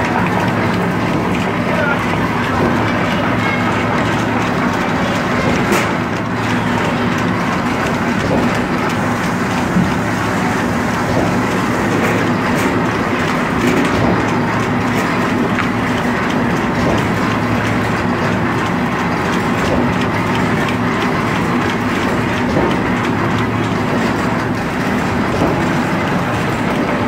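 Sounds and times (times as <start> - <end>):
conveyor clicks and clatter: 0.0 - 27.0
machine humming: 0.0 - 27.0.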